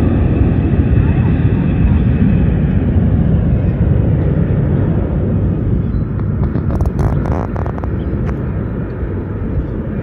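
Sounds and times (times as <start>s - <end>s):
jet engines rumbling at takeoff: 0.0s - 10.0s.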